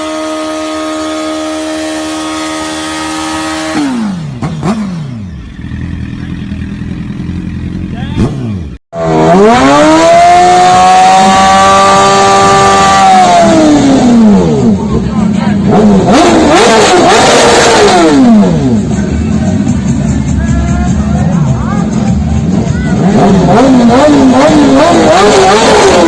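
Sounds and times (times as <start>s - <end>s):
motorcycle engines revving high: 0.0s - 26.0s.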